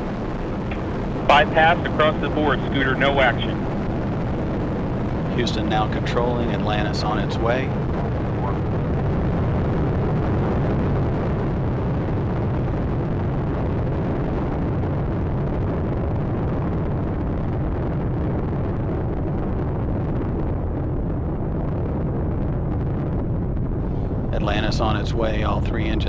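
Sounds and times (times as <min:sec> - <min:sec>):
deep rocket engine rumble: 0:00.0 - 0:26.0.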